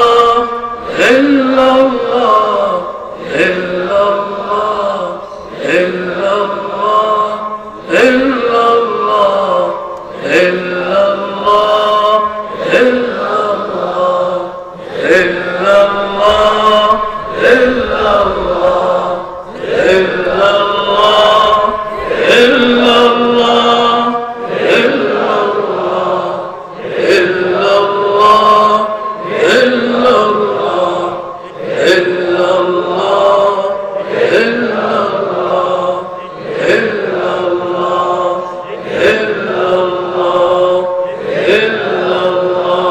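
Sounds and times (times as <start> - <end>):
man chanting: 0.0 - 42.9.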